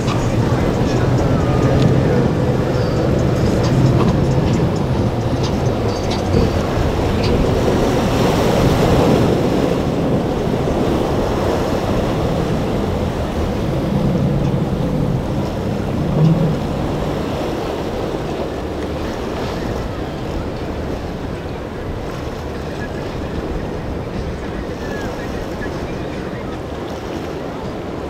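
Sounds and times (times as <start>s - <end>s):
outboard engines droning: 0.0s - 28.0s
waves and spray: 0.0s - 28.0s
wind on microphone: 0.0s - 28.0s.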